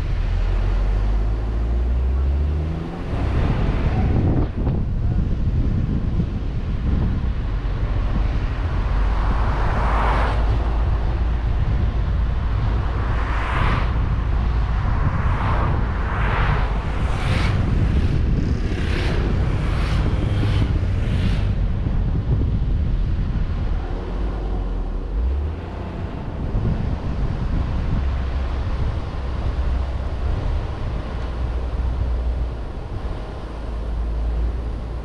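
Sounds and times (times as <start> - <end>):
low driving rumble: 0.0 - 35.0
wind buffeting camera: 0.0 - 35.0.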